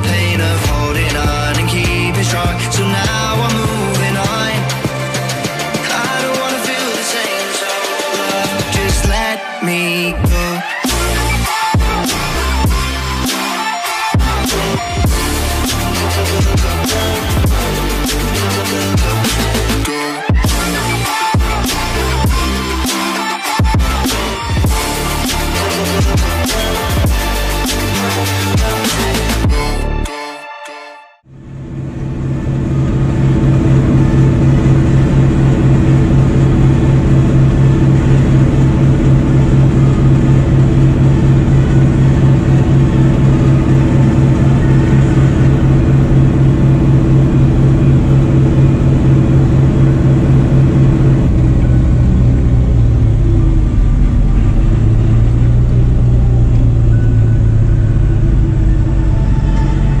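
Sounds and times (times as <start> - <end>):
tractor engine drone: 0.0 - 30.1, 31.3 - 60.0.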